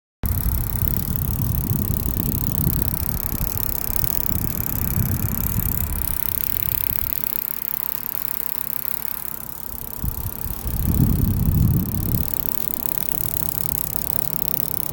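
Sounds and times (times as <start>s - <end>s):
faint steady hum: 0.2s - 14.9s
power supply rumbling: 0.2s - 14.9s.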